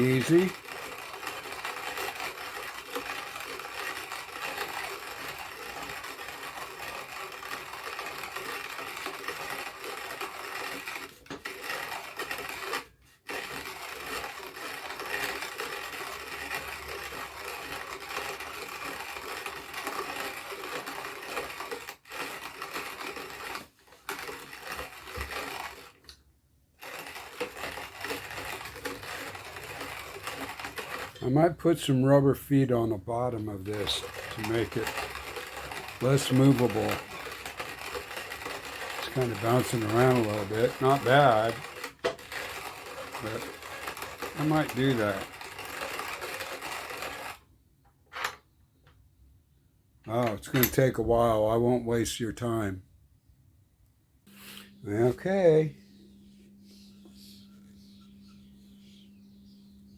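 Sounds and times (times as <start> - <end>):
hand-cranked coffee grinder grinding: 0.0 - 47.5, 48.1 - 48.4, 50.1 - 51.7, 54.3 - 59.0.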